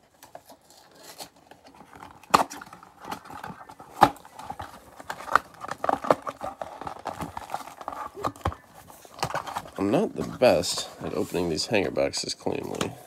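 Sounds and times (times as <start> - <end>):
cardboard rustling and scraping: 0.0 - 13.0
cardboard box tearing open: 0.1 - 11.5.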